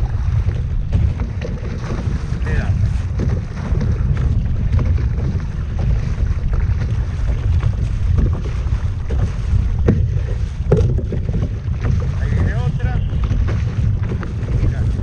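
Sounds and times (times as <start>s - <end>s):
kayak paddle splashes: 0.0s - 15.0s
wind rumbling on microphone: 0.0s - 15.0s.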